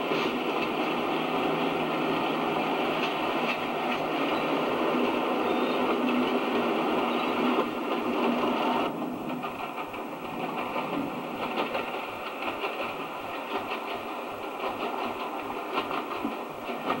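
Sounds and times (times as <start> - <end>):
diesel locomotive passing: 0.0 - 17.0
distant train: 0.0 - 17.0.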